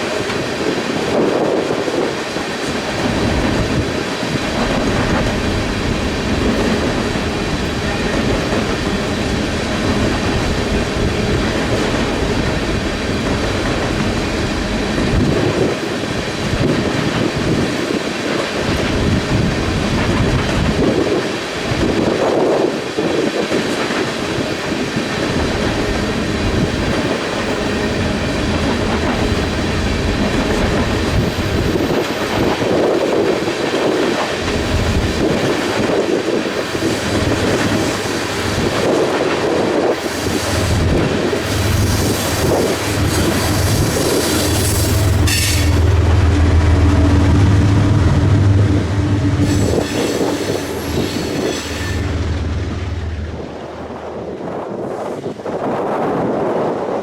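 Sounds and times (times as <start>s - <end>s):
train wheels clattering on rails: 0.0s - 57.0s
wind buffeting microphone: 0.0s - 57.0s.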